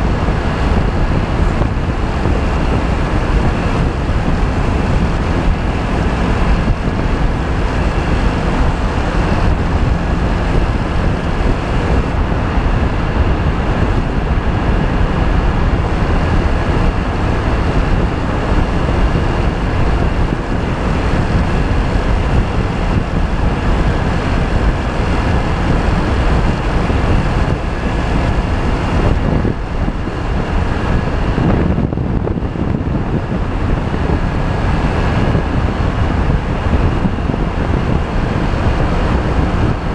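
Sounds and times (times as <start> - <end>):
scooter engine and road drone: 0.0 - 39.9
wind rushing over microphone: 0.0 - 39.9.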